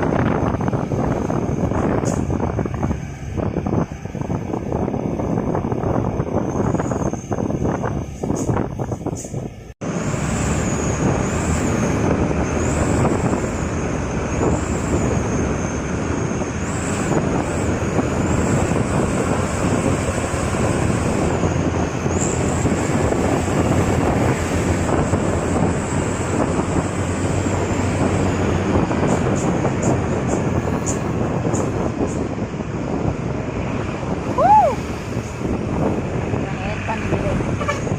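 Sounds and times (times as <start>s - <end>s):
vehicle engine and road noise: 0.0s - 37.9s.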